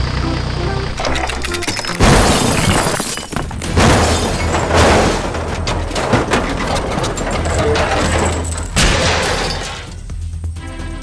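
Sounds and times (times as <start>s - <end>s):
loud shattering crashes: 1.0s - 10.4s.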